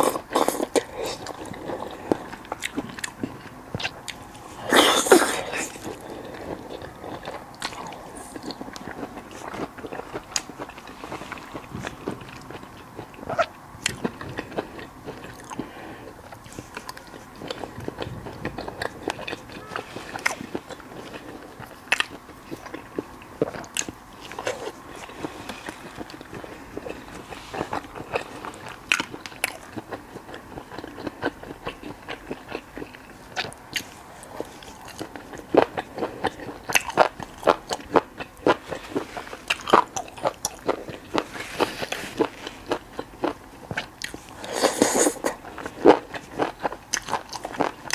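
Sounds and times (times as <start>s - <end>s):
crunching fried food: 0.0s - 47.9s.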